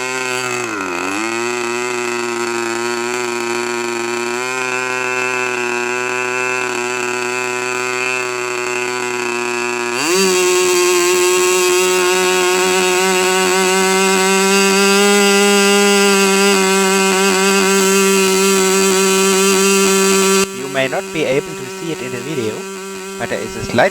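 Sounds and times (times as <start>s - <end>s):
model glow engine with propeller: 0.0s - 23.9s.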